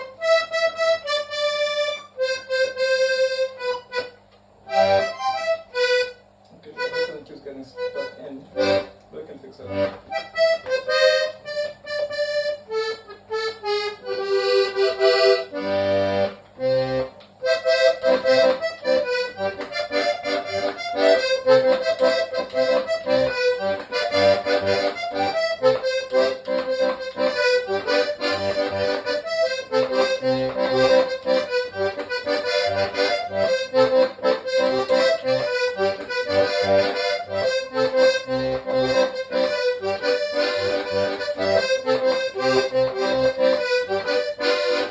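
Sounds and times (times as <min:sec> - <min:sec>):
button accordion playing: 0:00.0 - 0:44.9.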